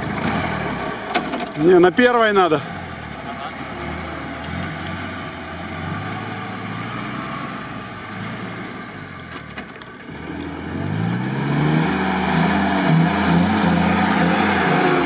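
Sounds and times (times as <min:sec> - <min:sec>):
jeep engine revving: 0:00.0 - 0:15.0.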